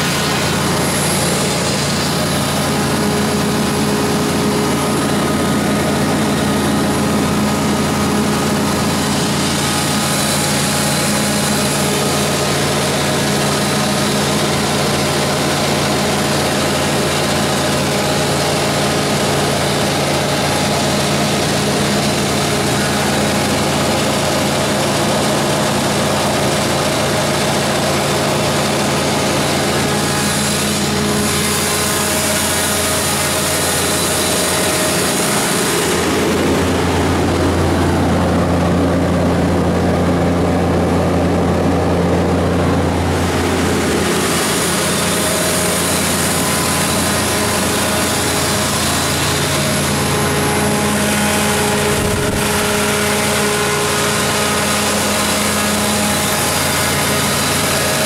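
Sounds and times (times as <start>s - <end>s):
generator engine humming: 0.0s - 58.0s.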